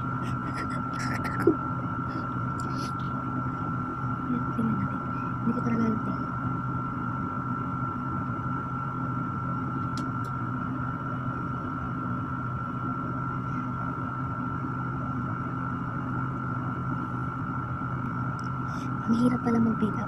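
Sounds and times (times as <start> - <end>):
electric fan humming: 0.0 - 20.0.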